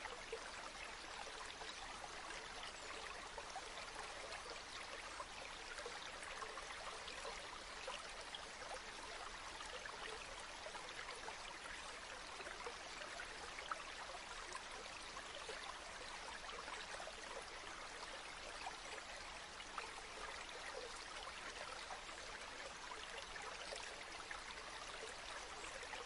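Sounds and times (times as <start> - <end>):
stream flowing and babbling: 0.0 - 26.0.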